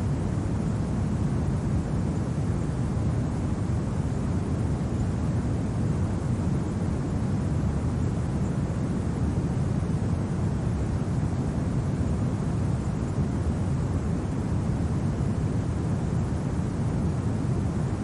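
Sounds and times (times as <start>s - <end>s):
low rumble of wind: 0.0s - 18.0s.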